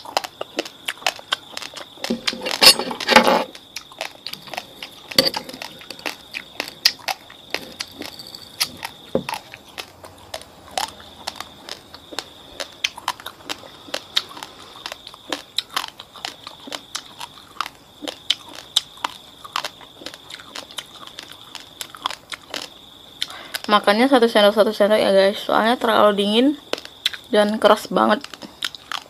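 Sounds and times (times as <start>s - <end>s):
chewing hard rice grains: 0.0s - 23.7s, 26.6s - 27.3s, 28.2s - 29.0s.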